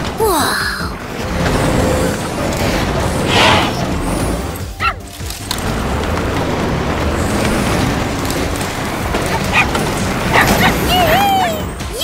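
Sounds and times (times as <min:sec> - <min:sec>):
machine engine rumble: 0:00.0 - 0:11.9
cartoon background music: 0:00.0 - 0:12.0.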